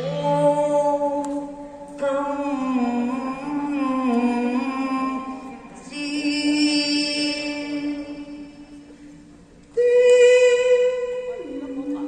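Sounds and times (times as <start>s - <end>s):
opera music long held notes: 0.0s - 12.0s.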